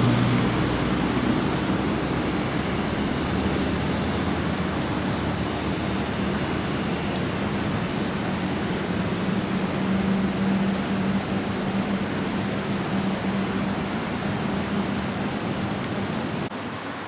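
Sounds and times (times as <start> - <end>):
stream rushing into pool: 0.0 - 17.0.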